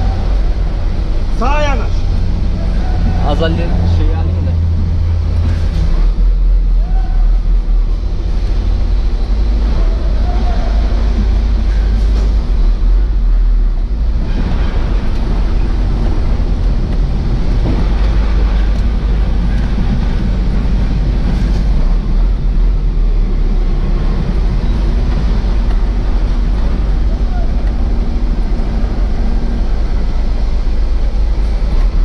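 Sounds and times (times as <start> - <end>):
truck diesel engine rumbling: 0.0 - 32.0.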